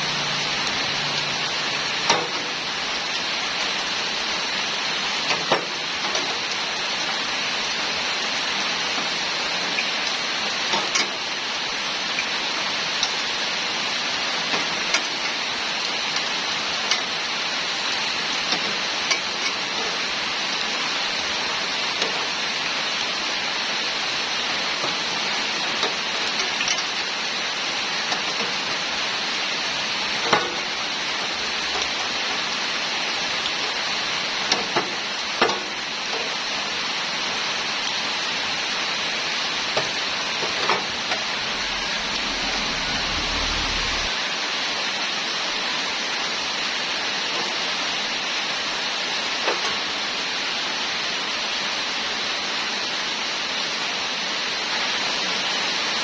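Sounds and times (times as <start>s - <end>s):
steady hissing noise: 0.0s - 56.0s.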